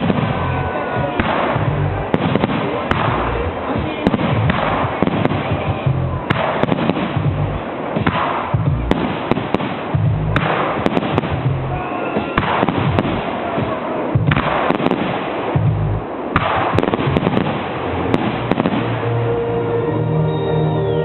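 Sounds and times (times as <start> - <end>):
fireworks shells bursting: 0.0 - 19.2
fireworks crackling: 0.0 - 19.7.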